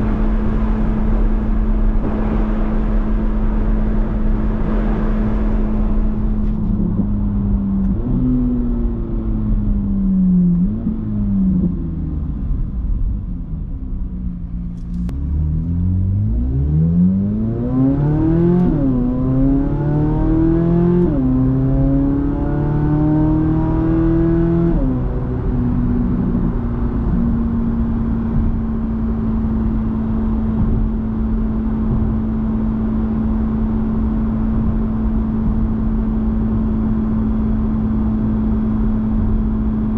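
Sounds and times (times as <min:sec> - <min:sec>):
car engine revving and cruising: 0:00.0 - 0:39.9.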